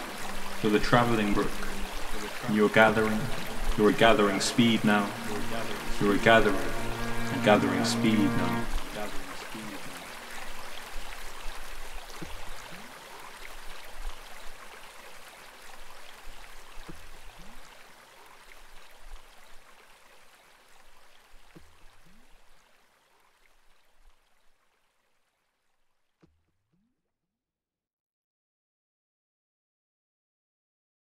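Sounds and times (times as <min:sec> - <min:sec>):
brook babbling over pebbles: 0:00.0 - 0:26.4.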